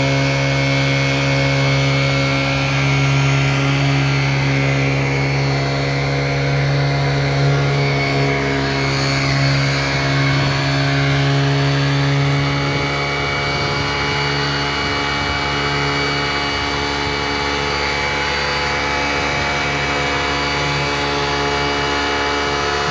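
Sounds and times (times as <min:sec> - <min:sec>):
leaf vacuum engine running: 0:00.0 - 0:22.9.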